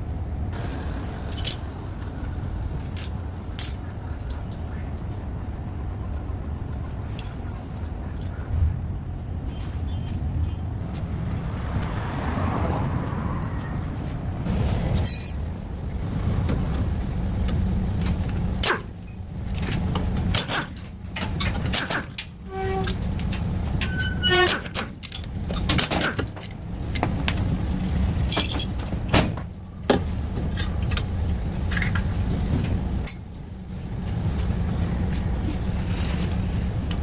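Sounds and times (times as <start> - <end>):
steady low rumble: 0.0 - 24.0, 25.0 - 37.0.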